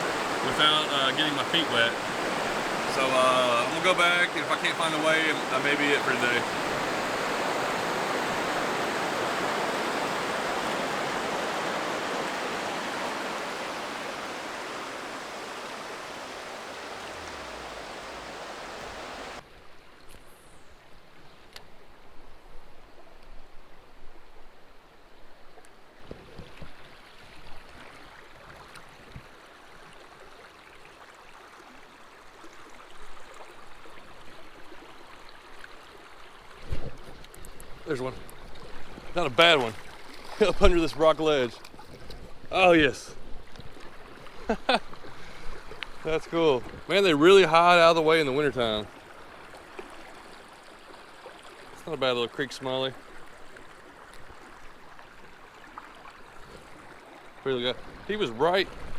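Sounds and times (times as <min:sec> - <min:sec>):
creek water rushing over rocks: 0:00.0 - 0:19.4, 0:25.9 - 0:58.9
quiet flow of water: 0:00.0 - 0:58.9.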